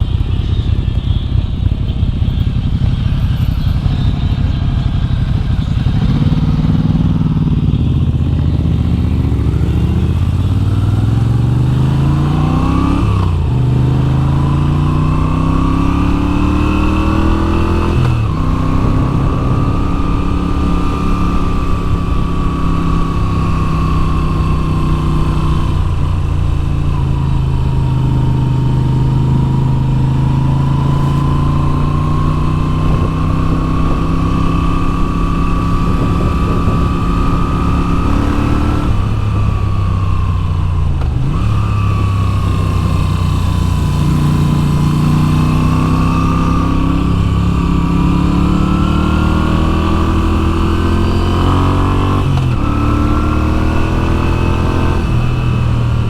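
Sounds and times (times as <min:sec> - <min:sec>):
motorcycle engine pulling away: 0:00.0 - 0:56.0.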